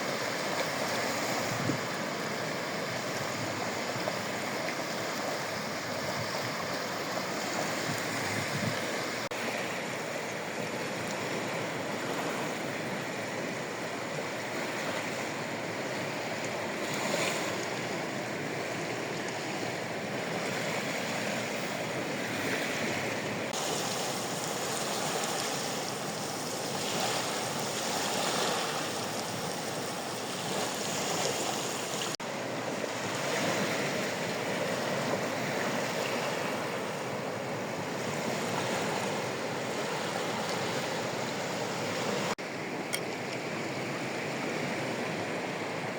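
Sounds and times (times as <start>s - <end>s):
sea waves washing ashore: 0.0s - 45.9s.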